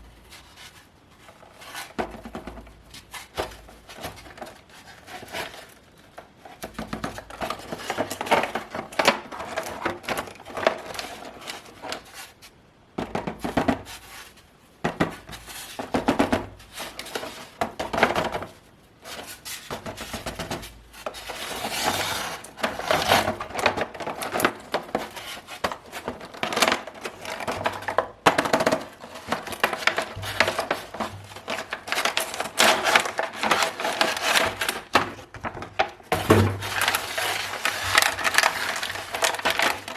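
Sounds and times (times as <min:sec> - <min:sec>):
packaging rustling and crinkling: 0:00.0 - 0:39.9.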